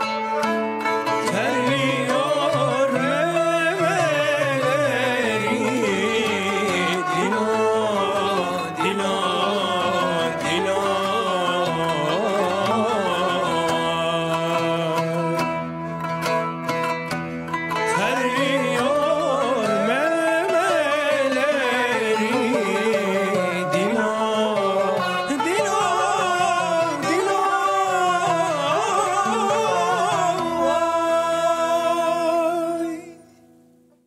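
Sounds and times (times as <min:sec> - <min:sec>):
bowed melody line: 0:00.0 - 0:33.2
plucked strings: 0:00.0 - 0:34.0.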